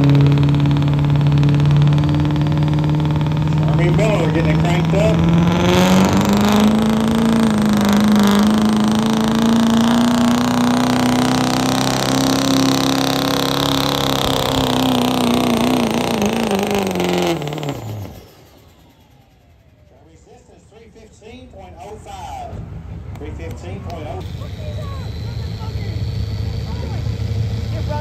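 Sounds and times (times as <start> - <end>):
truck engine revving under load: 0.0 - 19.8, 24.2 - 28.0.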